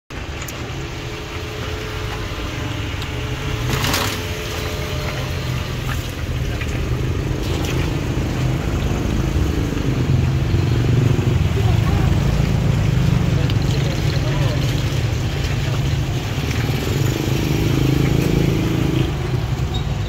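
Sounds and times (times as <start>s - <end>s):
low engine rumble: 0.1s - 20.0s.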